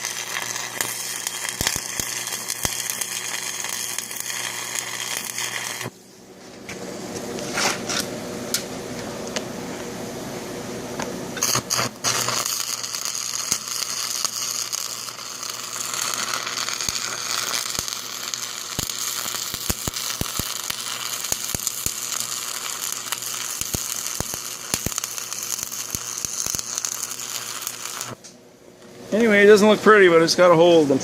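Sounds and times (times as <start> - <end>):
arc welder crackling hiss: 0.0 - 8.6, 11.0 - 28.4.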